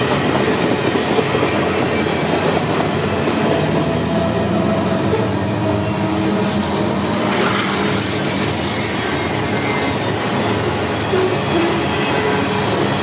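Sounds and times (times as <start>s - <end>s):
faint train howl: 0.0s - 13.0s
train wheels rumbling on rails: 0.0s - 13.0s.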